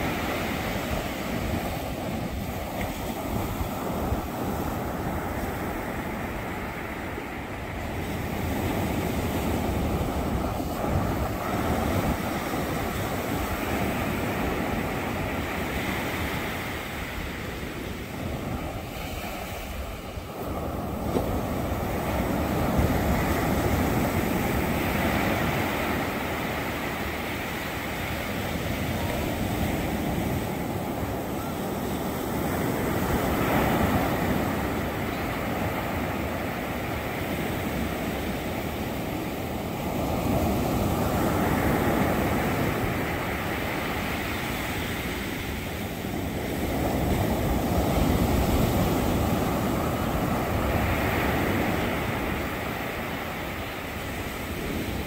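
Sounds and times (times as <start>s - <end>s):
waves breaking on sand: 0.0s - 55.0s.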